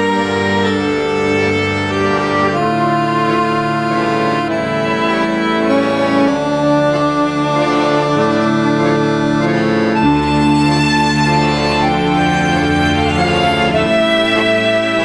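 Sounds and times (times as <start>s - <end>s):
accordion chords: 0.0s - 15.0s.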